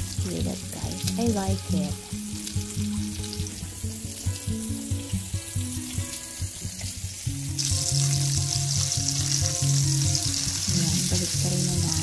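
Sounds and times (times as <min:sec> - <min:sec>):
background music with bass: 0:00.0 - 0:12.0
meat sizzling in oil: 0:00.0 - 0:12.0.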